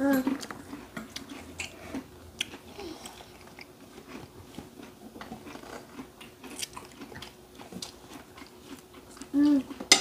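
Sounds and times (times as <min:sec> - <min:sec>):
children chewing food: 0:00.0 - 0:10.0.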